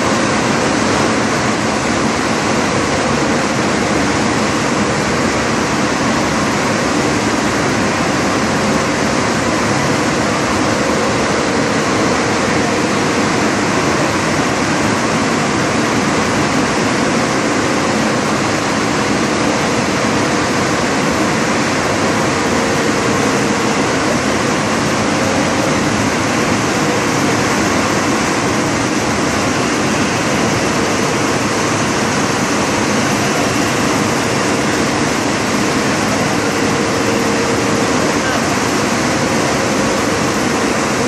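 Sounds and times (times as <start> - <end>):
printing press running: 0.0 - 41.0.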